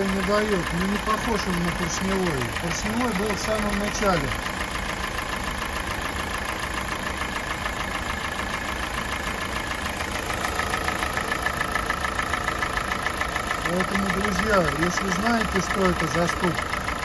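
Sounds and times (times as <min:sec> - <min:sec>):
car engine idling: 0:00.0 - 0:17.0
rapid metallic engine knock: 0:00.0 - 0:17.0.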